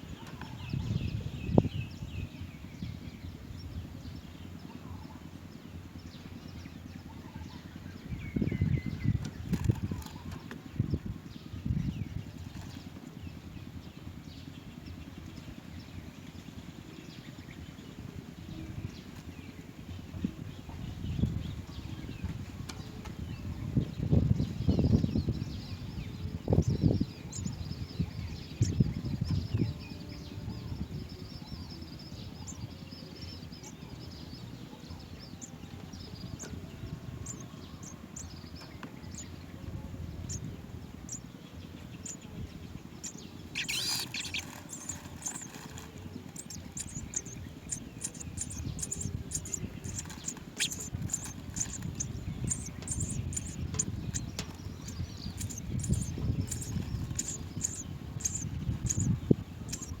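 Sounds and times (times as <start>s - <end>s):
nestlings chirping: 0.0s - 60.0s
steady low rumble: 0.0s - 60.0s.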